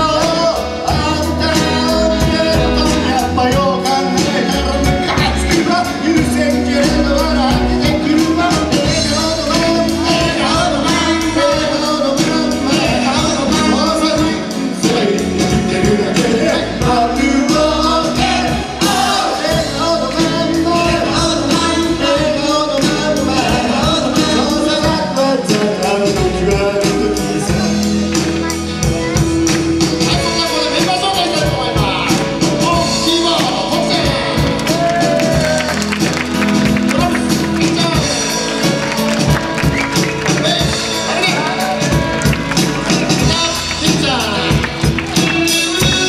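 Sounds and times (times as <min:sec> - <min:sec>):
man singing: 0:00.0 - 0:28.5, 0:29.8 - 0:46.0
acoustic guitar: 0:00.0 - 0:46.0
drums: 0:00.0 - 0:46.0
electric guitar: 0:00.0 - 0:46.0
keyboard: 0:00.0 - 0:46.0.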